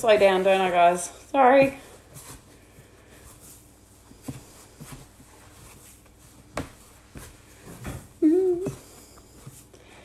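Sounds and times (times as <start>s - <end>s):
hands kneading dough: 0.0s - 10.0s.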